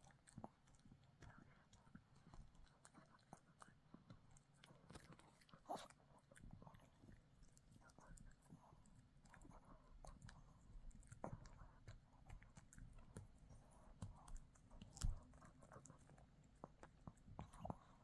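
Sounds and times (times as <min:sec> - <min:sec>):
dog chewing on a chew: 0:00.0 - 0:18.0.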